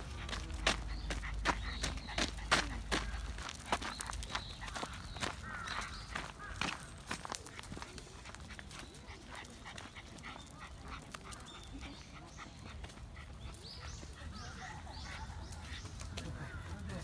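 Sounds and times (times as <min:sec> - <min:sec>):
footsteps on gravel: 0:00.0 - 0:14.2
small dog noises: 0:00.0 - 0:17.0.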